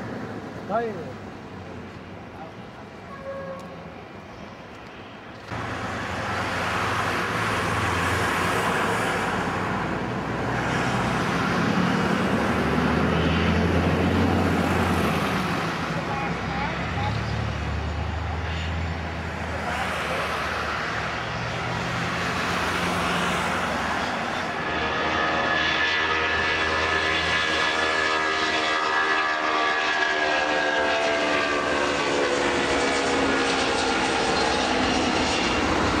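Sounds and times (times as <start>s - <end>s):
jet engine rumble: 0.0s - 36.0s
jet engine whine at take-off: 0.0s - 36.0s.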